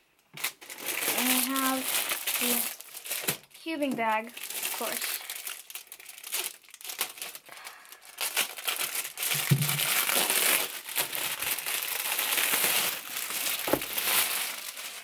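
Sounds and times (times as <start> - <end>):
plastic wrapping crinkling: 0.2 - 15.0.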